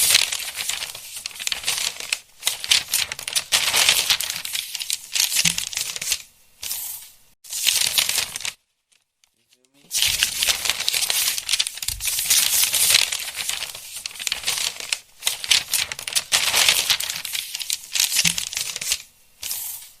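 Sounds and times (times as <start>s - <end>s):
book pages rustling: 0.0s - 20.0s.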